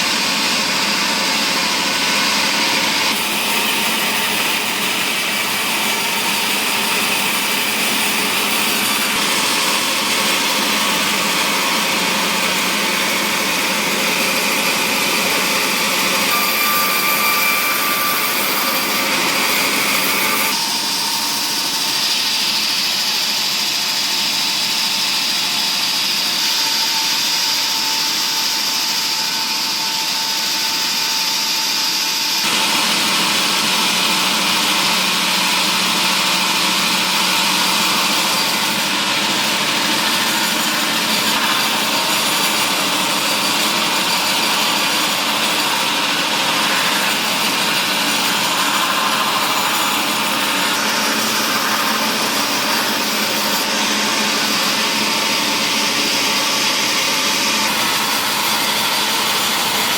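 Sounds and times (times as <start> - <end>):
woodworking machinery running: 0.0 - 59.9.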